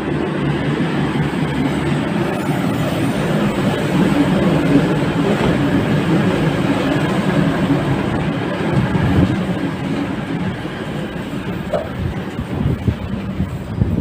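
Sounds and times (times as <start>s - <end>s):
train carriages rumbling on rails: 0.0s - 14.0s.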